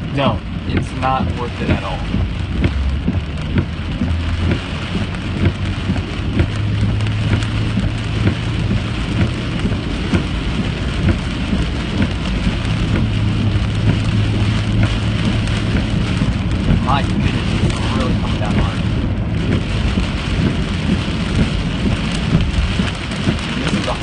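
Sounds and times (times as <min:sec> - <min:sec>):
engine and tyres on wet road: 0:00.0 - 0:24.0
heavy rain on car roof: 0:00.0 - 0:24.0.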